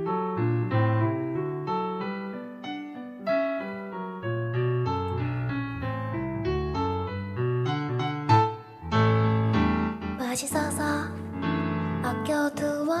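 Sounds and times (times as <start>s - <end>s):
keyboard melody over bass chords: 0.0s - 12.3s.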